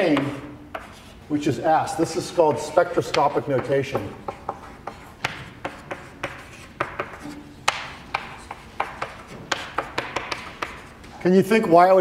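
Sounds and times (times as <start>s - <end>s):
chalk tapping and scratching on blackboard: 0.0s - 1.2s, 2.0s - 11.2s.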